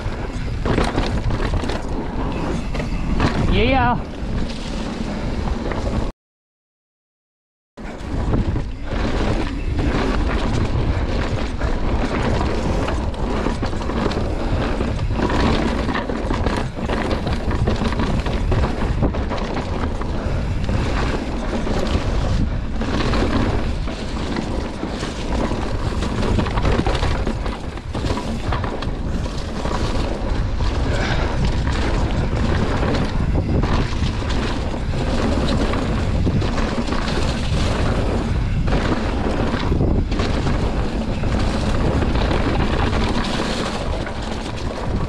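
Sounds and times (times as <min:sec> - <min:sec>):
bike tyres rumbling on trail: 0:00.0 - 0:06.1, 0:07.8 - 0:45.0
wind rushing over microphone: 0:00.0 - 0:06.1, 0:07.8 - 0:45.0.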